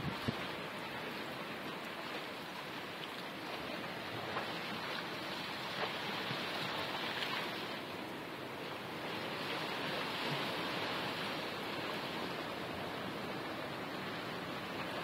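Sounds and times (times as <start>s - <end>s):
surf on rocky shore: 0.0s - 15.0s.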